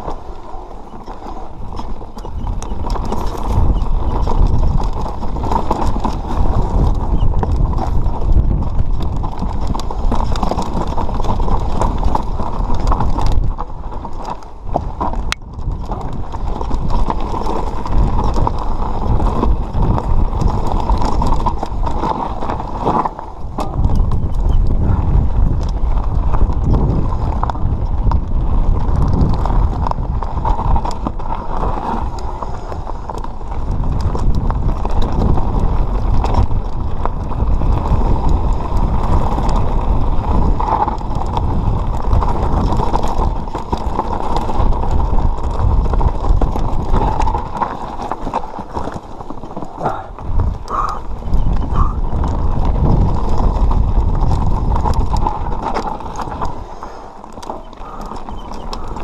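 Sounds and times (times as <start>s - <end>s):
bike rattling over bumps: 0.0s - 59.0s
tyres rolling over dirt and rocks: 0.0s - 59.0s
wind buffeting microphone: 0.0s - 59.0s.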